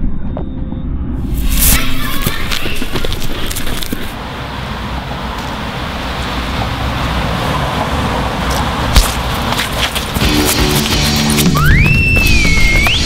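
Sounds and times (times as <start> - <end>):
road traffic rumble: 1.4 - 13.0.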